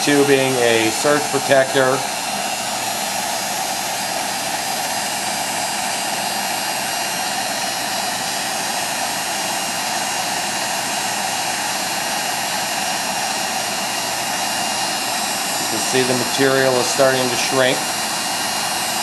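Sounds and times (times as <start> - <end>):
heat gun fan blowing hot air: 0.0 - 19.0.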